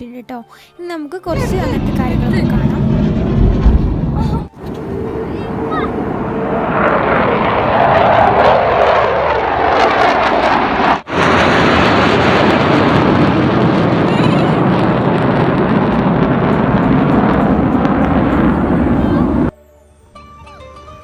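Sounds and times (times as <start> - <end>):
jet planes roaring overhead: 1.3 - 19.5.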